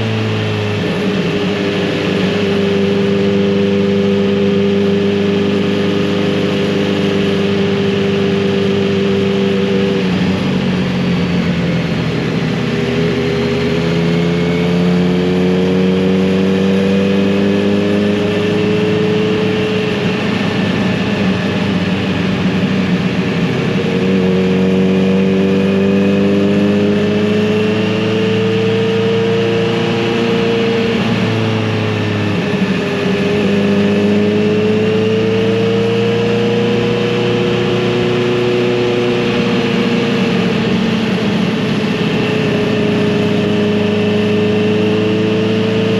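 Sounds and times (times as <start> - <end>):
motorcycle engine and exhaust: 0.0 - 45.9.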